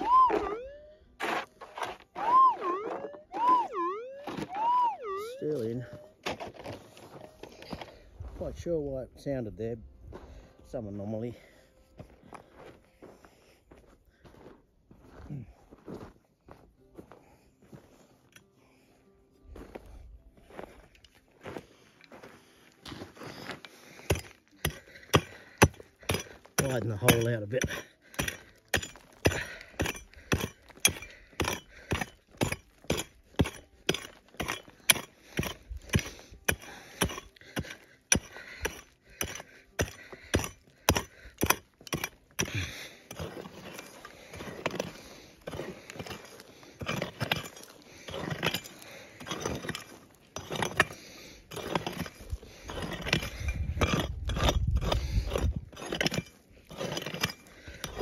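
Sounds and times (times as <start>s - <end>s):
scraping of dirt and stones: 0.0s - 58.0s.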